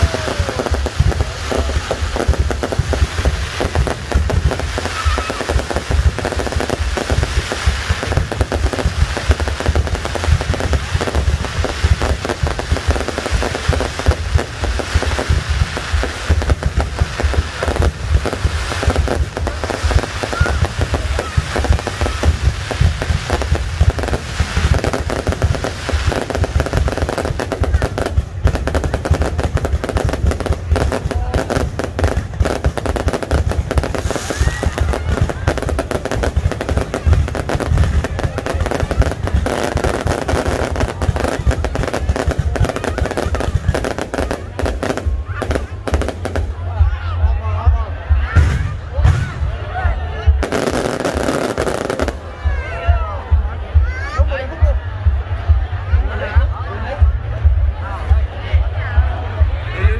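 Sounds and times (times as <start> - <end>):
firework bangs and crackles: 0.0 - 59.9.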